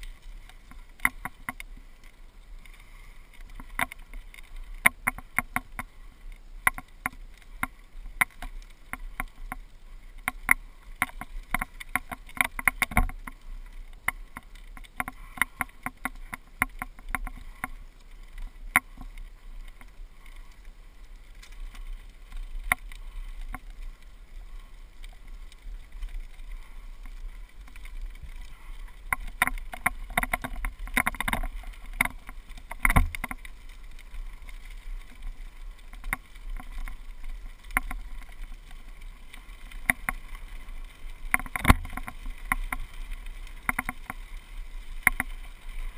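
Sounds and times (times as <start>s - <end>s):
wind: 0.0s - 45.9s.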